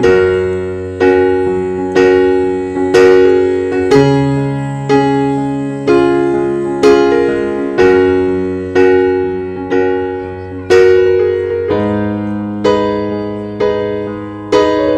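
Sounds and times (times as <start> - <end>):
slow piano chords: 0.0 - 14.9.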